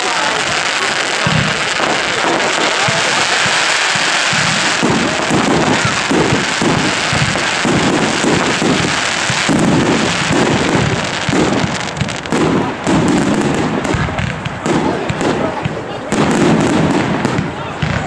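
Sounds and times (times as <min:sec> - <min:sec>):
firework fountains hissing and crackling: 0:00.0 - 0:18.0
firework launches and bursts: 0:00.0 - 0:18.0.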